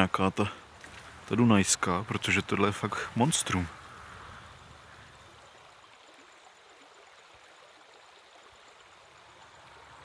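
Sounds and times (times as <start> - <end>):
river current rushing: 0.0 - 10.0.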